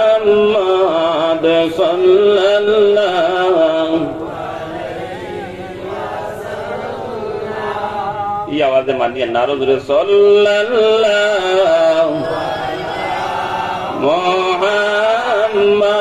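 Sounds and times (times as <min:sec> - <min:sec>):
man chanting: 0:00.0 - 0:06.0, 0:07.0 - 0:16.0.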